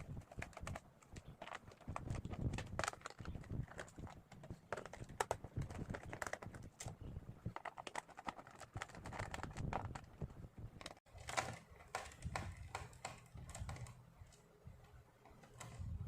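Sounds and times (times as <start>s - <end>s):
hands handling plastic case: 0.0s - 14.5s.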